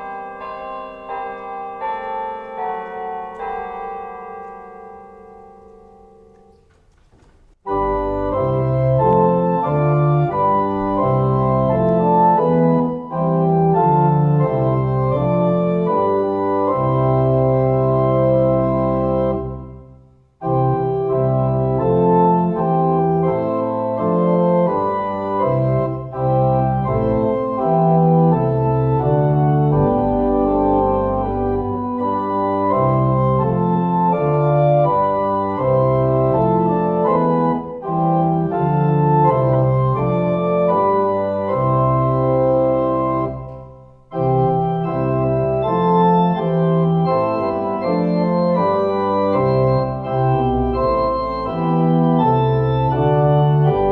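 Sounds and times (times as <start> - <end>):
organ playing sustained chords: 0.0 - 53.9.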